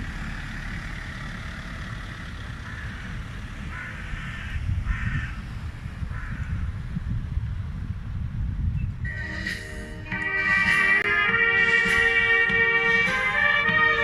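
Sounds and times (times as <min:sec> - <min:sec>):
traffic rumble: 0:00.0 - 0:14.0
wind: 0:00.0 - 0:14.0.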